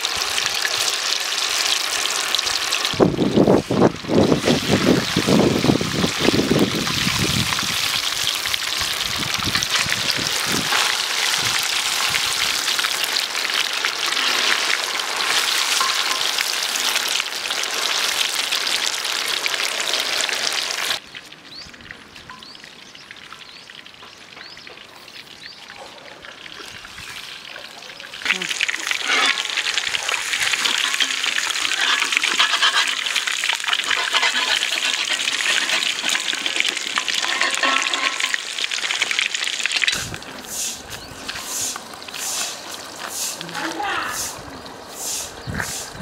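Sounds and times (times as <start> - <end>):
fish sizzling in hot oil: 0.0 - 21.7, 28.1 - 44.2.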